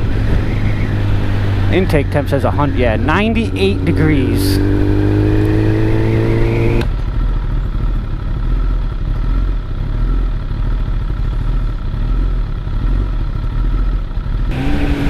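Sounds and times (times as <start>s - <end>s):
motorcycle engine rumble: 0.0s - 15.0s
road and wind noise: 0.0s - 15.0s.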